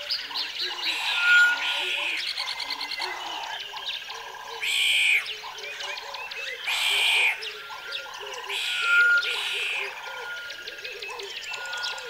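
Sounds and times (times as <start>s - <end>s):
birds chirping: 0.0s - 12.0s
frogs croaking: 0.0s - 12.0s.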